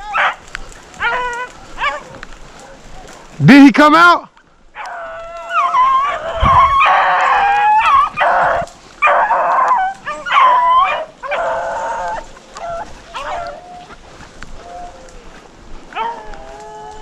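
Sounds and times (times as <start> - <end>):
hounds baying and yelping: 0.0 - 3.4, 4.6 - 17.0.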